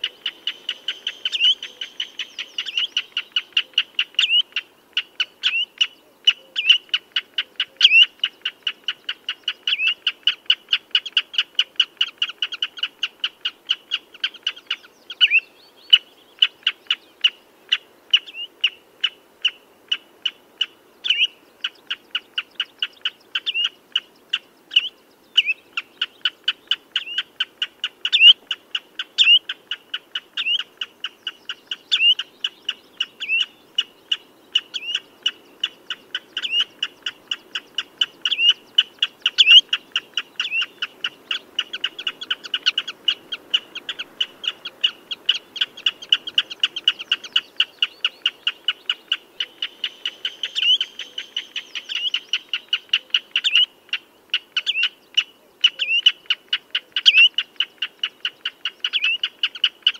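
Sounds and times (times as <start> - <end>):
redshank piping calls: 0.0 - 59.9.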